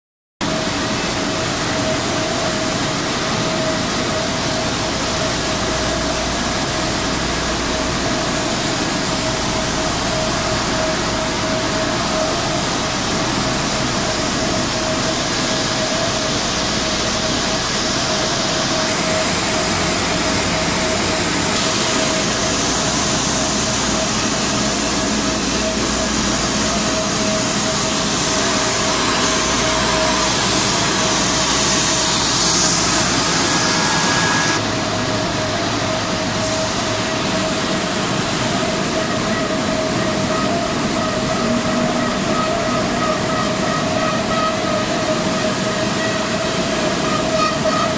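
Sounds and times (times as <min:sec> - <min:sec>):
mid-pitched machine whine: 0:00.4 - 0:47.9
production line machinery noise: 0:00.4 - 0:47.9.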